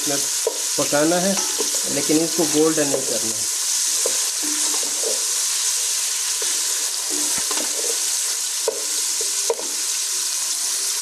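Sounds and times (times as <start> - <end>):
onions sizzling in oil: 0.0 - 11.0
utensil scraping and knocking pan: 0.4 - 9.8.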